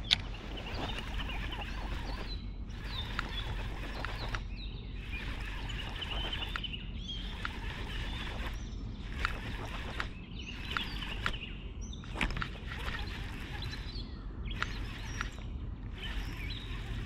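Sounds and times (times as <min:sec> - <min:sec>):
birds chirping and singing: 0:00.0 - 0:17.0
low outdoor rumble: 0:00.0 - 0:17.0.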